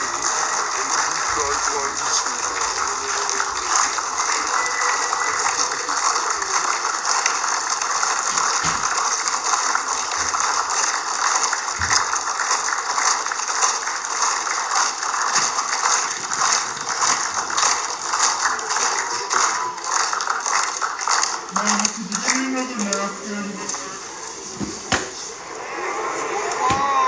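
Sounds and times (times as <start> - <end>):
crowd applause: 0.0 - 27.0.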